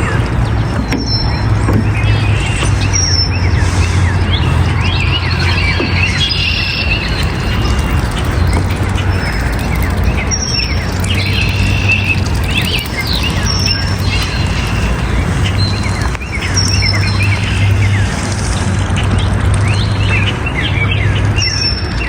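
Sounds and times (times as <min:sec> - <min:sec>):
small birds chirping: 0:00.6 - 0:18.7.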